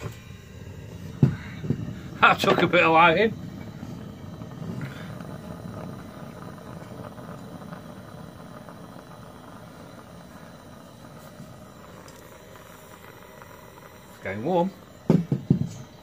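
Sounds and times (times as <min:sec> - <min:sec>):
gas heater burner flame: 0:00.0 - 0:16.0.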